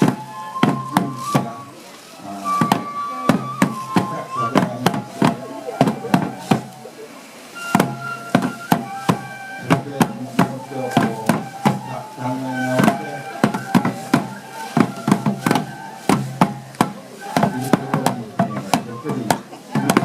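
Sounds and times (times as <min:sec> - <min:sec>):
small drums struck: 0:00.0 - 0:01.7, 0:02.4 - 0:06.8, 0:07.6 - 0:20.0
bamboo flute: 0:00.0 - 0:20.0.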